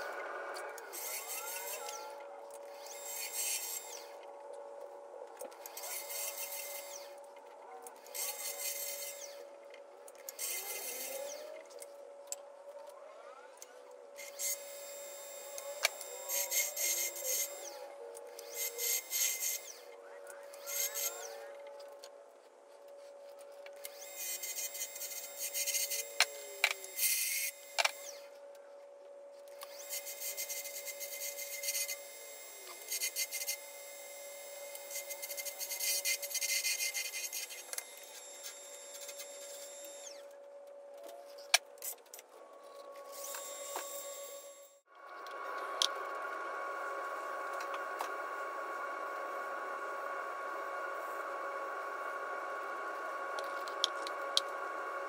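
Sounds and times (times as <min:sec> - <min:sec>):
lathe whine: 0:00.0 - 0:55.0.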